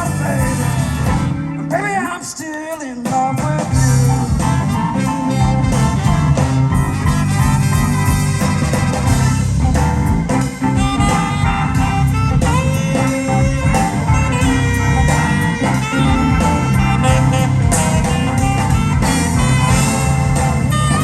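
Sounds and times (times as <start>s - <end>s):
electric guitar: 0.0s - 21.0s
live blues band playing: 0.0s - 21.0s.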